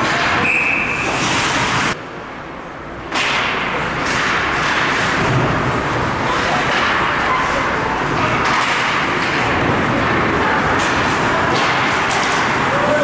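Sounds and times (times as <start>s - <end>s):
ice hockey arena noise: 0.0s - 13.0s.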